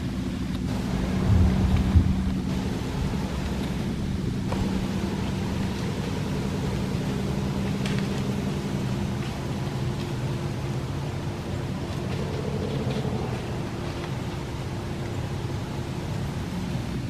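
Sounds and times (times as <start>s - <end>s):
even hiss: 0.0s - 17.0s
low mechanical drone: 0.0s - 17.0s.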